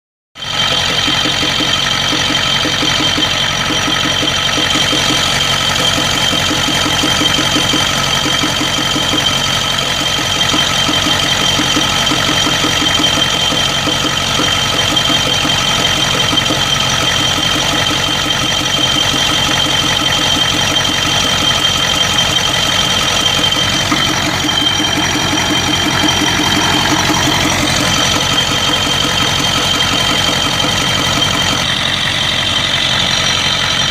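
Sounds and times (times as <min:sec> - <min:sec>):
diesel engine idling with knock: 0:00.4 - 0:33.9
steady high whine: 0:00.5 - 0:33.9.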